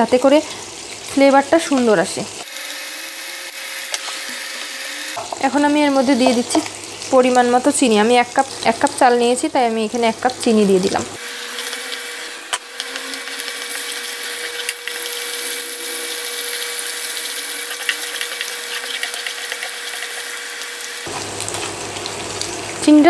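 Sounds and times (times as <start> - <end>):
sugar sizzling in hot oil: 0.0 - 23.0.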